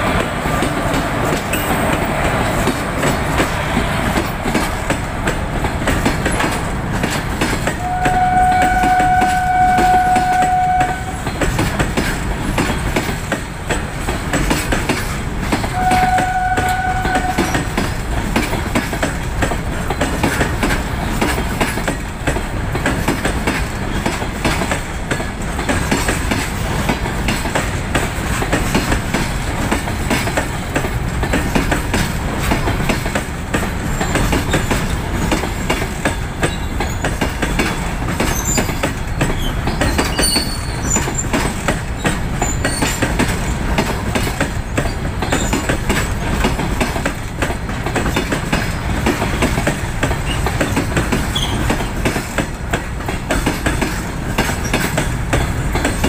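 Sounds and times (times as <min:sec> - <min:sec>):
goods train rumbling past: 0:00.0 - 0:56.0
wheels clattering over rail joints: 0:00.0 - 0:56.0.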